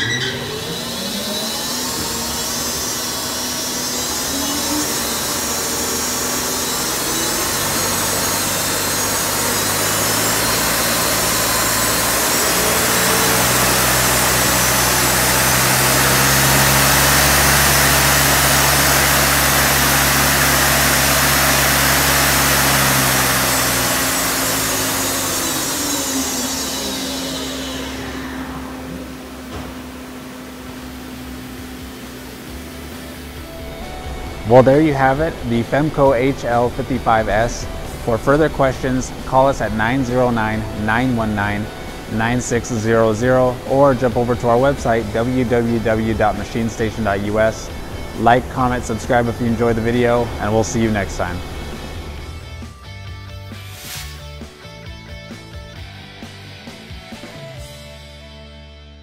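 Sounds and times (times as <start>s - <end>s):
lathe spindle whirring hum: 0.0s - 52.9s.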